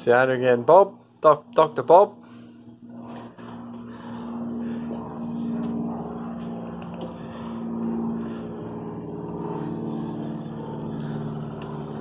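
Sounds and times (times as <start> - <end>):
engine humming: 0.6 - 12.0.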